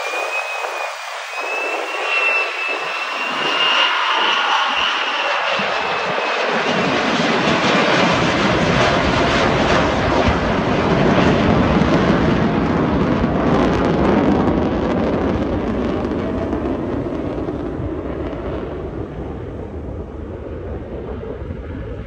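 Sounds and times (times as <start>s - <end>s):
fighter jet flying overhead: 0.0s - 22.0s.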